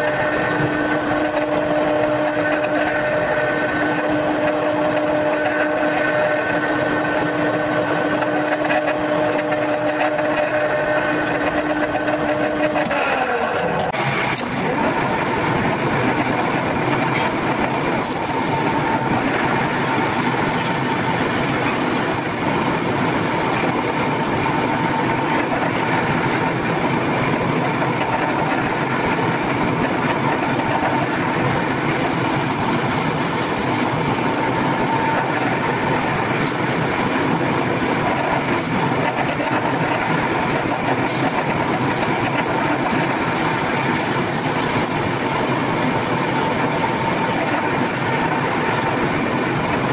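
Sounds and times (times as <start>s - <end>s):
power tool running: 0.0s - 49.9s.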